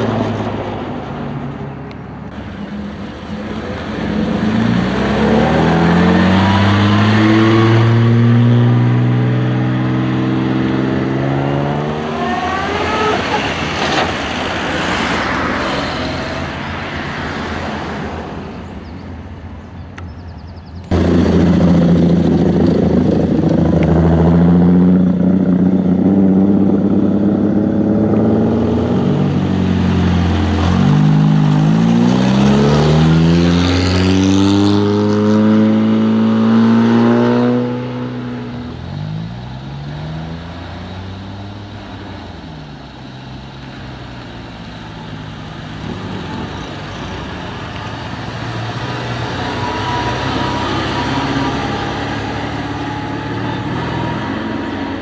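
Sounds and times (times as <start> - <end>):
loud car engine: 0.0 - 18.7, 20.8 - 55.0
cars driving past: 0.0 - 55.0.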